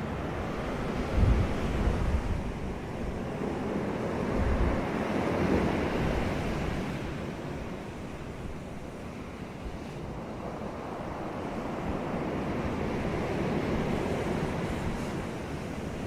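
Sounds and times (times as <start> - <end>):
waves breaking on a beach: 0.0 - 16.0
wind rumble on microphone: 0.0 - 16.0.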